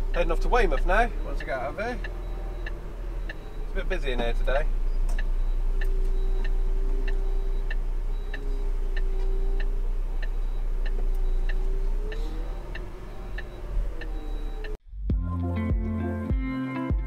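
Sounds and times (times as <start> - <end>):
turn-signal indicator ticking: 0.0 - 14.8
engine low rumble: 0.0 - 15.7.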